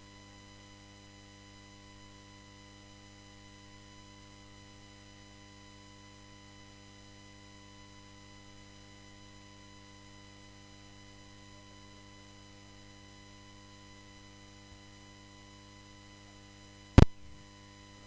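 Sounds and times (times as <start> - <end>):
low mains hum: 0.0 - 18.0.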